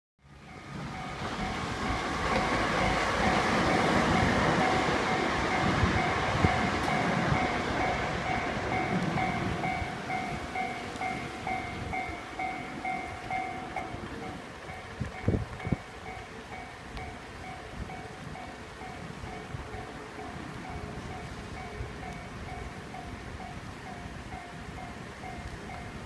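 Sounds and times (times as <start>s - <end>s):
crossing warning bell ringing: 0.2s - 26.0s
diesel locomotive engine rumble: 0.2s - 26.0s
train wheel noise: 0.2s - 26.0s.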